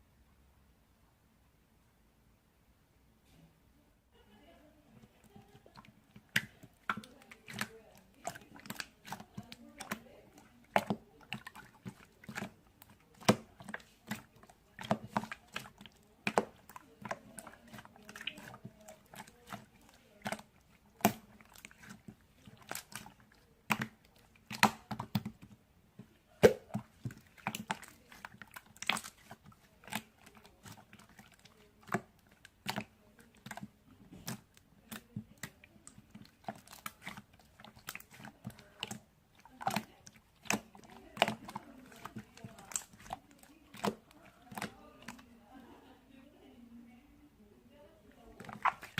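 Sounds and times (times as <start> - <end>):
hands squishing slime: 5.0 - 45.3, 48.1 - 48.9.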